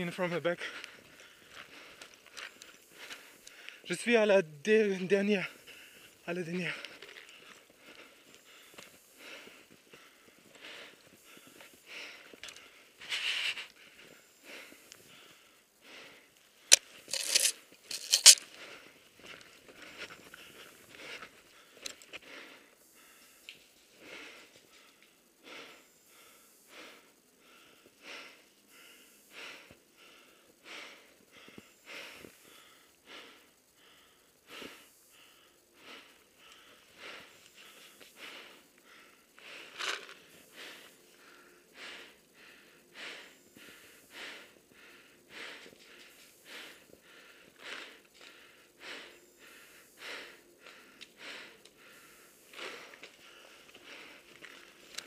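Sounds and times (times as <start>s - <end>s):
person breathing quickly: 0.0s - 3.9s, 5.1s - 55.0s.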